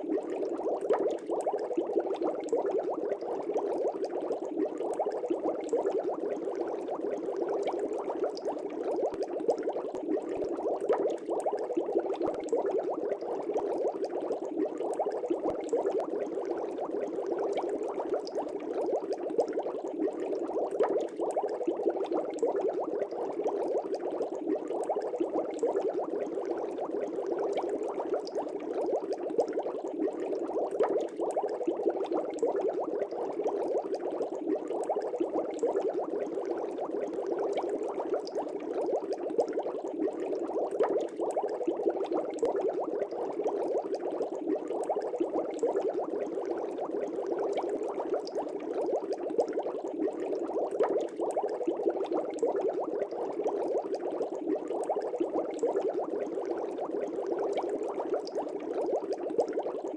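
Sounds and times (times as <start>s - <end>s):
air bubbling through aquarium water: 0.0s - 59.9s.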